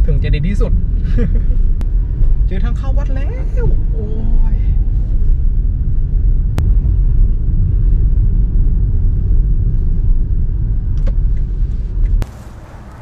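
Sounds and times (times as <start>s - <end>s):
car interior road and engine rumble: 0.0s - 13.0s.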